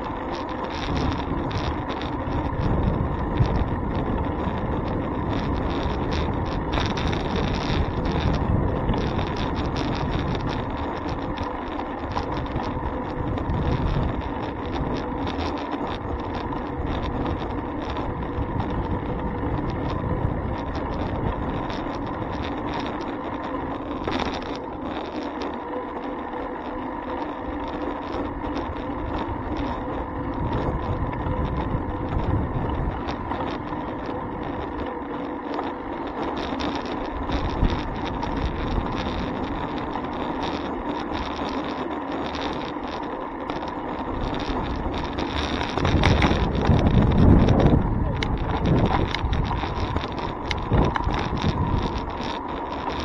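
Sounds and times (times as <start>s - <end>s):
faint steady hum: 0.0s - 53.0s
wind and road noise: 0.0s - 53.0s.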